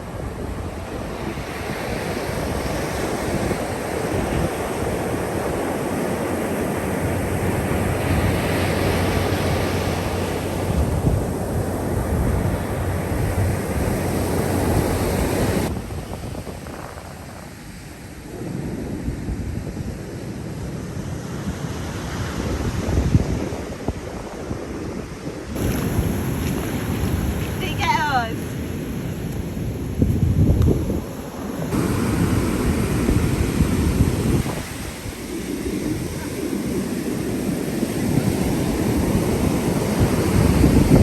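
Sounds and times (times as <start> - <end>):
sea waves washing onto beach: 0.0 - 41.0
wind buffeting microphone: 0.0 - 41.0.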